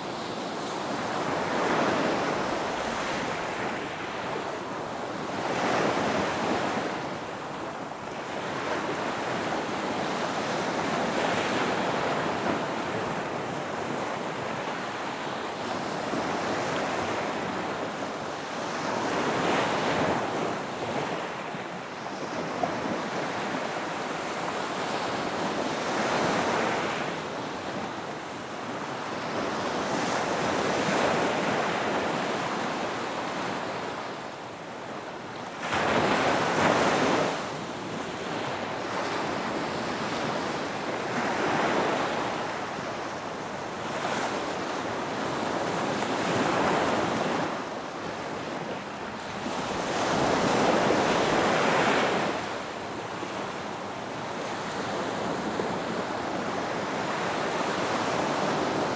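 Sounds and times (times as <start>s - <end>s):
ocean waves breaking on beach: 0.0s - 58.9s.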